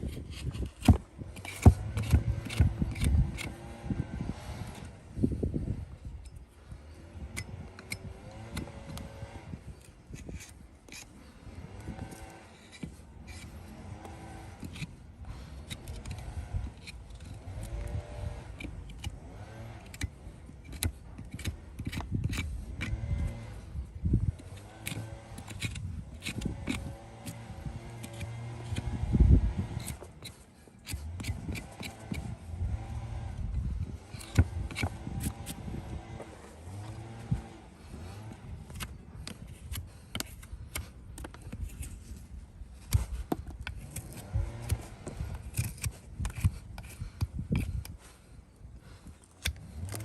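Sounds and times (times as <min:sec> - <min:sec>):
hand tools clicking and scraping hoof: 0:00.0 - 0:50.0.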